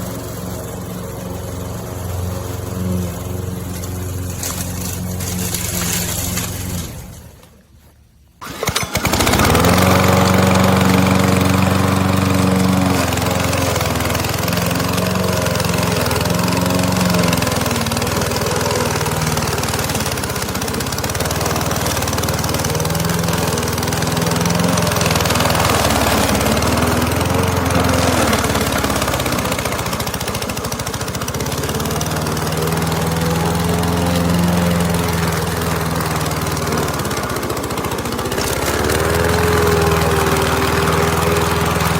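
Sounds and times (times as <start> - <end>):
lawn mower engine running: 0.0 - 41.9.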